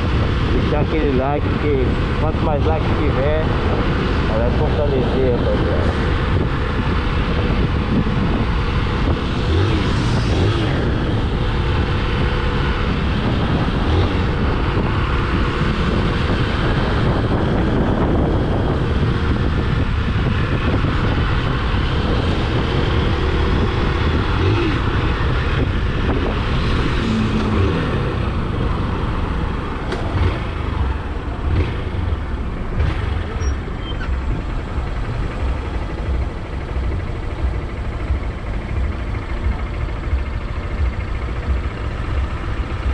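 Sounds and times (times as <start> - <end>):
low engine drone: 0.0 - 42.9
road and wind rush: 0.0 - 42.9.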